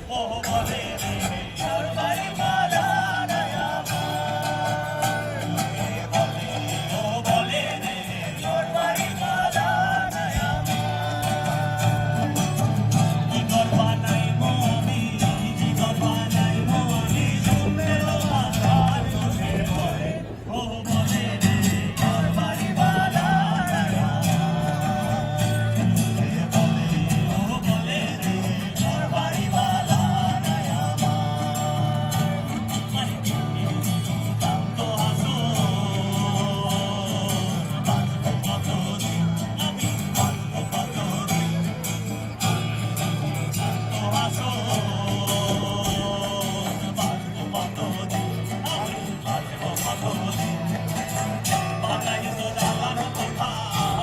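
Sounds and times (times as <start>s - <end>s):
percussion beat: 0.0s - 20.1s, 20.9s - 54.0s
plucked strings: 0.0s - 54.0s
voices singing folk melody: 0.0s - 54.0s.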